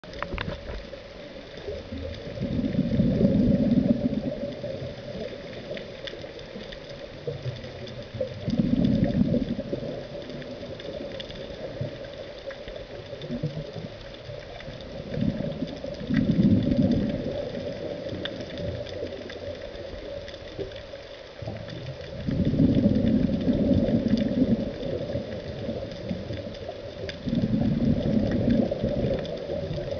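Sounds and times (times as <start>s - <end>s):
regulator bubbles gurgling: 0.0s - 29.9s.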